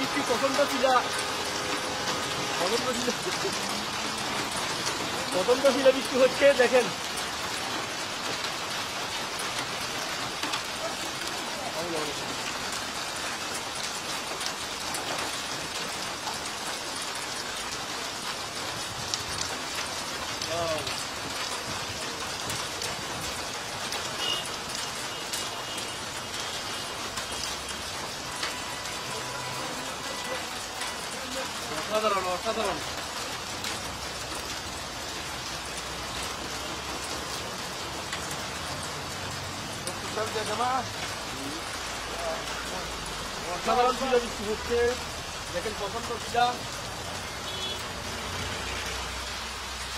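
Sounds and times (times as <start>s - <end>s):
hailstones striking hard surfaces: 0.0s - 42.8s
rain hissing: 0.0s - 49.9s.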